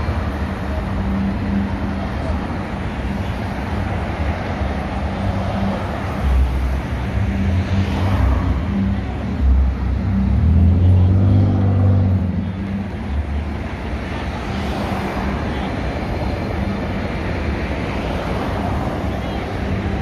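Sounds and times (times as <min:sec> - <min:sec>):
cars passing close by: 0:00.0 - 0:20.0
low traffic rumble: 0:00.0 - 0:20.0.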